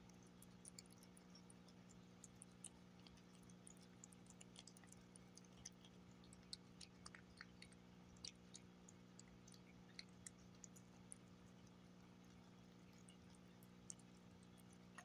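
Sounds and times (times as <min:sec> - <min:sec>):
cat chewing: 0:00.0 - 0:15.0.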